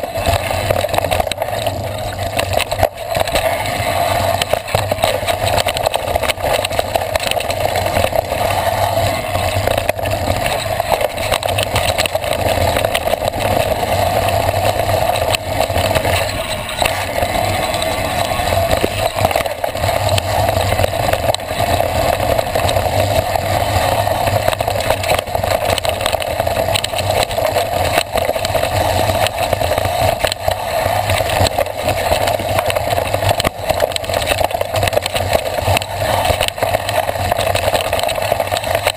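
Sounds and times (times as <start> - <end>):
bike knocks and rattles: 0.0 - 38.9
wind and tyre noise: 0.0 - 38.9.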